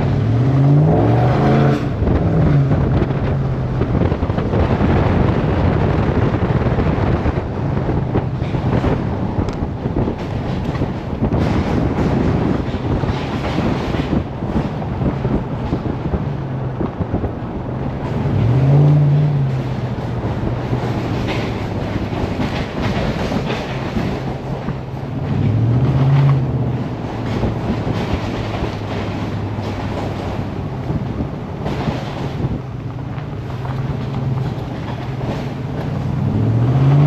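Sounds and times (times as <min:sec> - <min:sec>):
truck engine drone: 0:00.0 - 0:22.6, 0:23.2 - 0:37.0
tyres on gravel road: 0:00.0 - 0:37.0.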